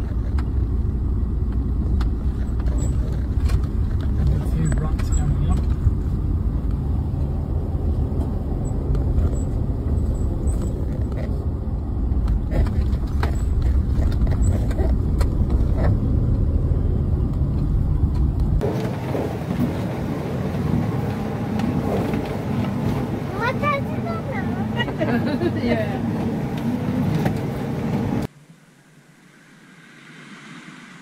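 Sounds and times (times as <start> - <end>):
vehicle cabin noise: 0.0 - 29.1
engine and tyre rumble: 0.0 - 31.0.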